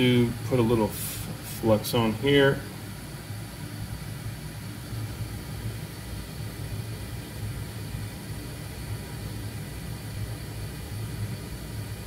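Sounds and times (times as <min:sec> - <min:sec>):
fan running hum and hiss: 0:00.0 - 0:12.0.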